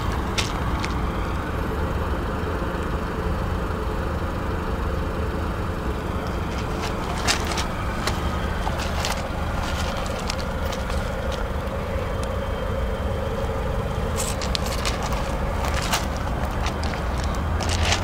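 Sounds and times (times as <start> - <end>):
car engine idling: 0.0 - 18.0
faint steady whine: 0.0 - 18.0.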